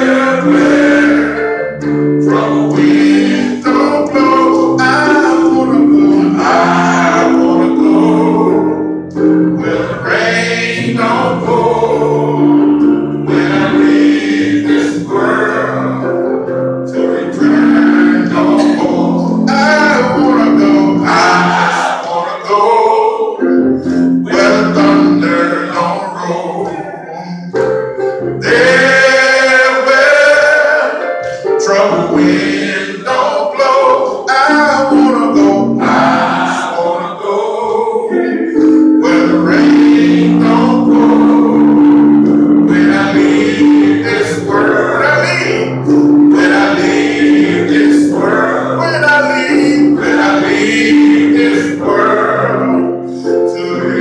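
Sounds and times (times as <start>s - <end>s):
male choir singing: 0.0s - 27.5s, 28.4s - 54.0s.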